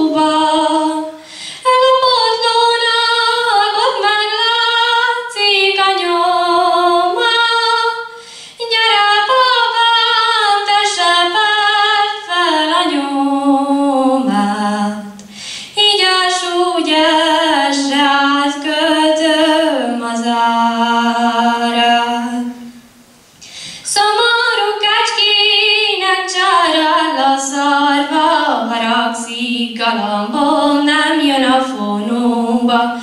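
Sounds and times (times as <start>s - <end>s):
girl singing folk song: 0.0s - 22.8s, 23.4s - 33.0s.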